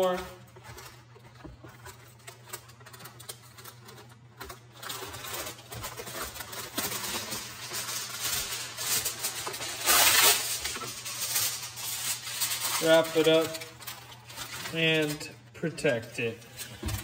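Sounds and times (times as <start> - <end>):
aluminium foil crinkling: 0.0 - 17.0
foil ripping: 2.5 - 17.0.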